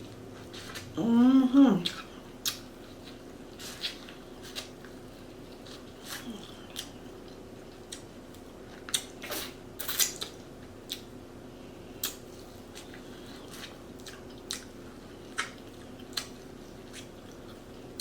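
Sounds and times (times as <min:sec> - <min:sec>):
faint steady hum: 0:00.0 - 0:18.0
wet chewing and lip smacks: 0:01.8 - 0:11.1, 0:12.0 - 0:18.0.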